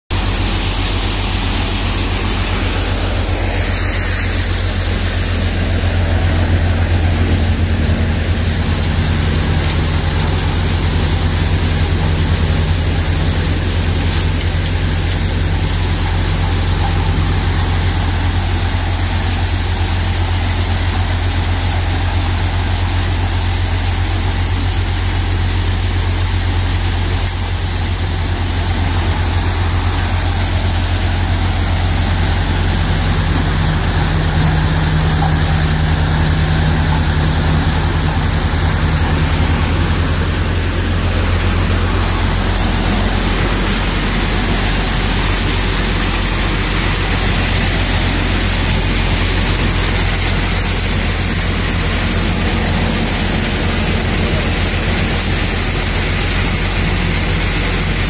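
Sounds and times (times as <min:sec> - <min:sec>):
thresher machine droning: 0:00.1 - 0:58.0.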